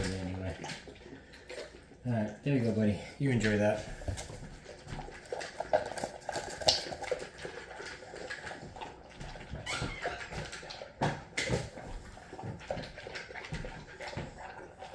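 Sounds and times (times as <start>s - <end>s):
dog chewing wetly: 0.0s - 14.9s.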